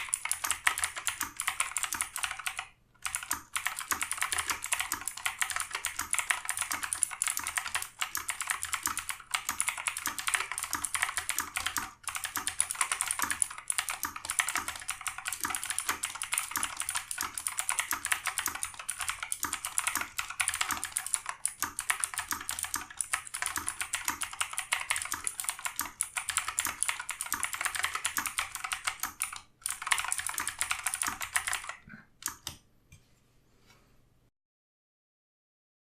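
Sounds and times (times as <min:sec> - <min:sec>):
fast typing on mechanical keyboard: 0:00.0 - 0:32.6.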